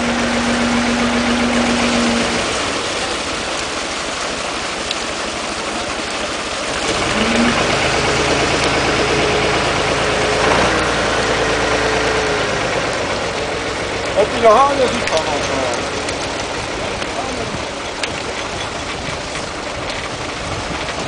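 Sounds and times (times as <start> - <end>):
truck engine running: 0.0 - 21.0
water splashing: 0.0 - 21.0.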